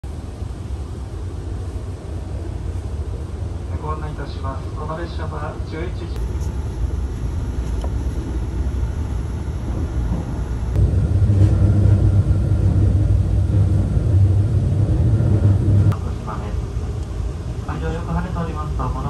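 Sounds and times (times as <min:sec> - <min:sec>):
train interior low rumble: 0:00.0 - 0:19.0.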